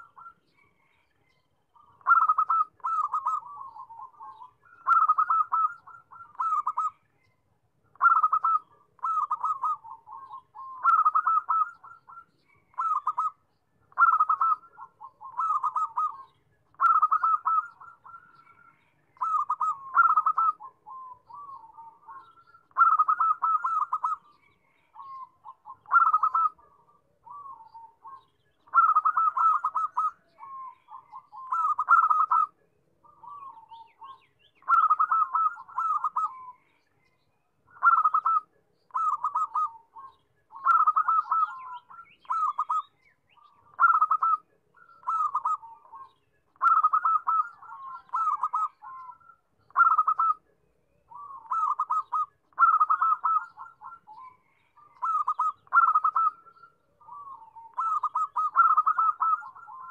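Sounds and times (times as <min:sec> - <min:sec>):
dove cooing: 0:00.0 - 0:00.7, 0:01.8 - 0:07.0, 0:07.9 - 0:36.6, 0:37.7 - 0:50.4, 0:51.1 - 0:59.9.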